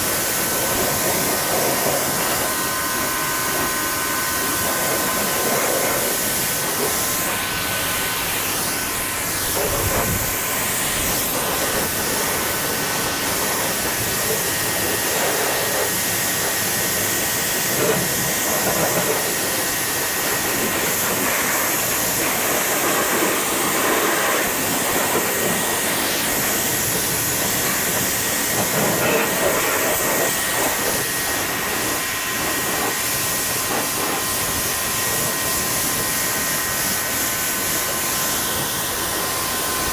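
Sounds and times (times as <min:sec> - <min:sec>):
faint steady whine: 0:00.0 - 0:39.9
pressure washer spraying water: 0:00.0 - 0:39.9.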